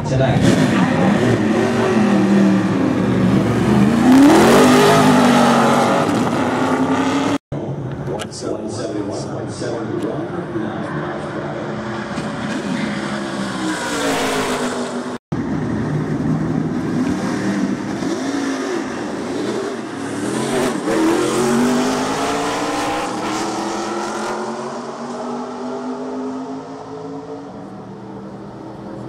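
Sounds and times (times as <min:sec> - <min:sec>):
race engines passing at speed: 0:00.0 - 0:08.5, 0:09.1 - 0:29.0.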